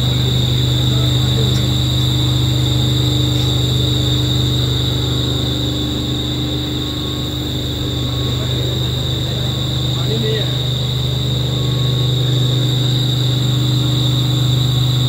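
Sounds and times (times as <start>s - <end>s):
electric pump low hum: 0.0s - 15.0s
pump high-pitched whine: 0.0s - 15.0s.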